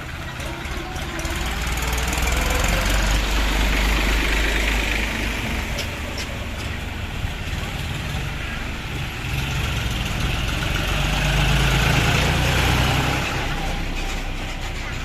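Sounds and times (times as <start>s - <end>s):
diesel engine rumble: 0.0s - 15.0s
road and tyre noise: 0.0s - 15.0s.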